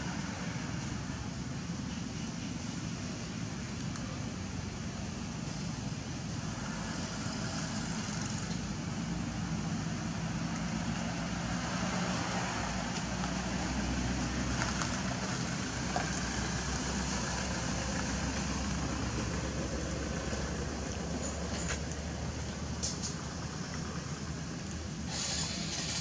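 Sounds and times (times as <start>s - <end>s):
constant hiss: 0.0s - 26.0s.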